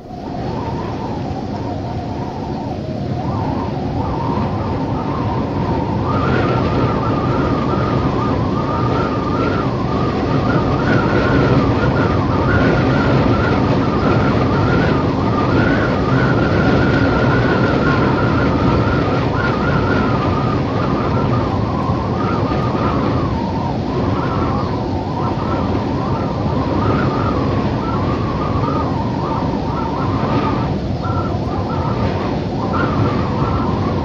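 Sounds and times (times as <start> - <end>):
wavering wind whistle: 0.0 - 34.0
wind howling: 0.0 - 34.0.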